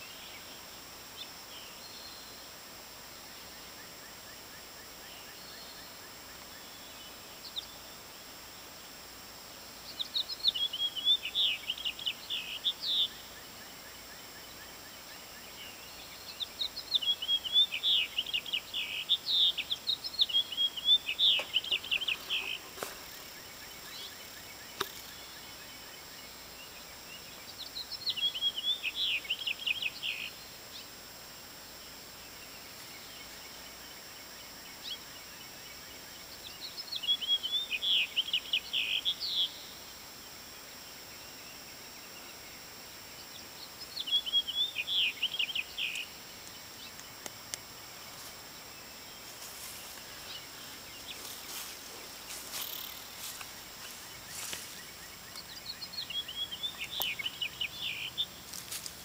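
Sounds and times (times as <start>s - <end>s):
songbird singing: 0.0s - 2.5s, 3.2s - 8.3s, 9.8s - 31.1s, 31.9s - 59.0s.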